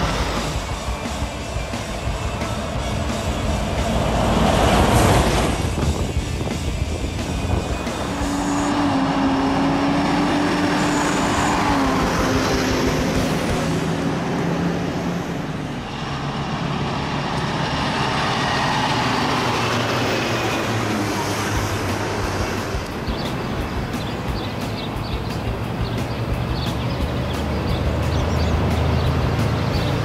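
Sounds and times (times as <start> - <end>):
truck engine: 0.0 - 30.0
truck passing with tyre noise: 0.0 - 30.0.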